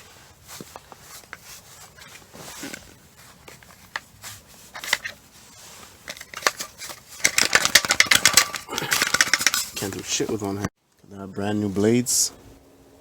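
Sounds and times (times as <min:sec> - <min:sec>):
equipment being handled: 0:00.0 - 0:10.6.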